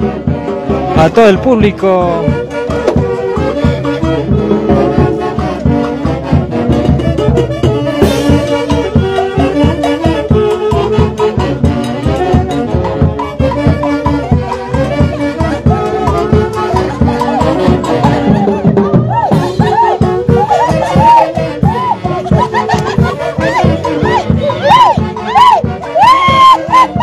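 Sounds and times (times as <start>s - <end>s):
brass band music: 0.0s - 27.0s.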